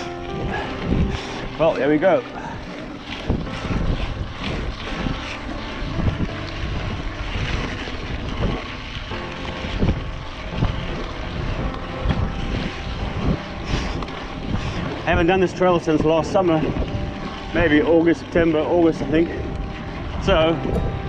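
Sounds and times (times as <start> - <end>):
wind and tyre noise: 0.0 - 21.0.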